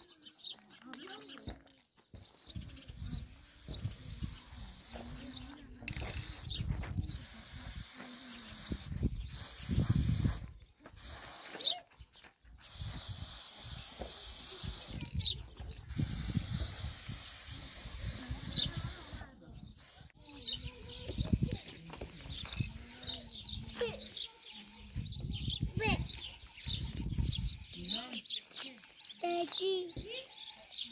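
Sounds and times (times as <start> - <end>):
spray paint can hissing: 2.2 - 11.8, 12.6 - 30.9.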